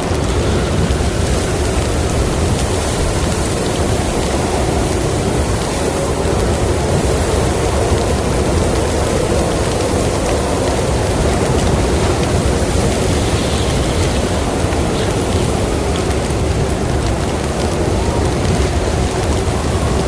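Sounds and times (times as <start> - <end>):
steady rushing wind: 0.0 - 20.0.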